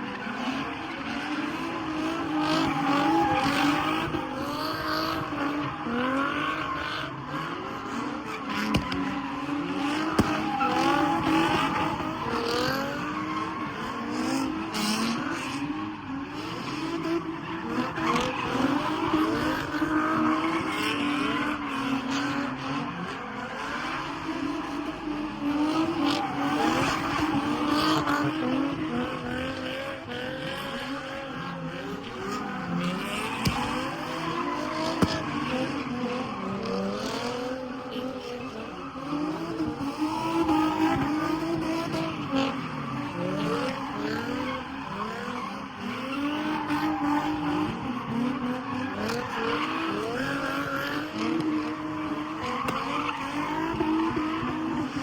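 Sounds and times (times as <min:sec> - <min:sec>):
car engine revving: 0:00.1 - 0:55.0.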